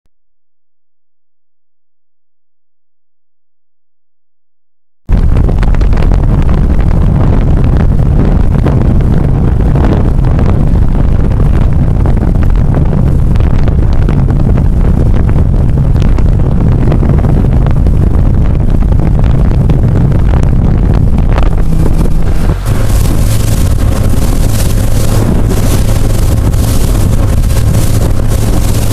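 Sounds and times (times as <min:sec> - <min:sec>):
wind buffeting microphone: 0:05.1 - 0:28.9.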